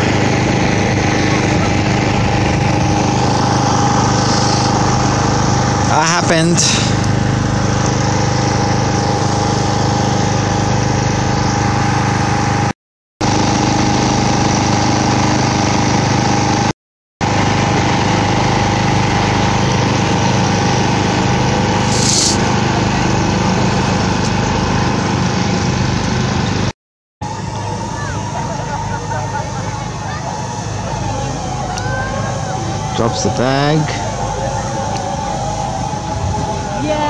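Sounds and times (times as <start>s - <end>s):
small engine running steadily: 0.0s - 37.0s.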